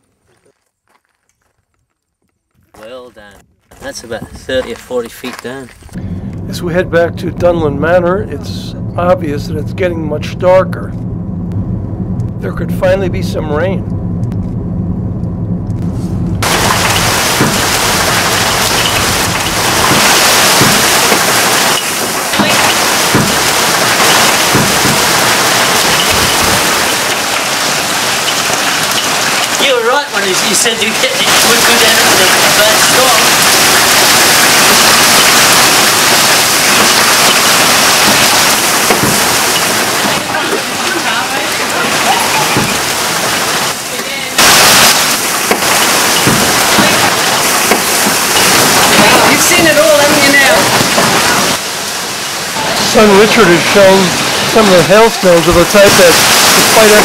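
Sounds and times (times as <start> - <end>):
small hail impacts: 0.2 - 6.4, 16.4 - 57.0
car engine and road noise: 2.4 - 56.4
hail and rain pelting down: 3.7 - 10.8, 16.4 - 57.0.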